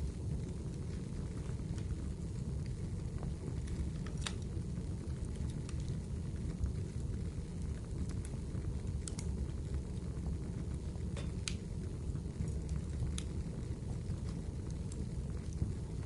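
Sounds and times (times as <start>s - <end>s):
fire crackles and pops: 0.0s - 16.0s
fire rumbling: 0.0s - 16.0s.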